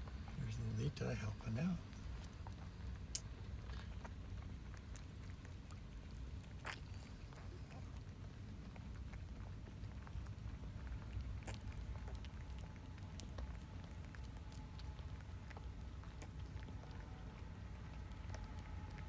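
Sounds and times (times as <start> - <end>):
kittens stirring with clicks and rustling: 0.0 - 19.0
low steady rumble: 0.0 - 19.0.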